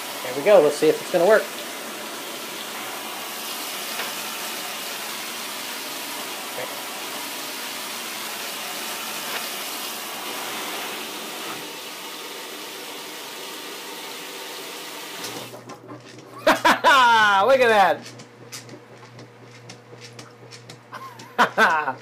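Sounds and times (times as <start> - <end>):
water filling washing machine: 0.0 - 22.0.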